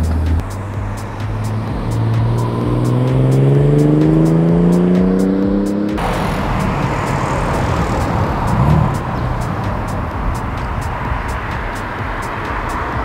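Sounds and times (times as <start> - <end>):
car engine accelerating: 0.0 - 13.0
car tyres rushing past: 0.0 - 13.0.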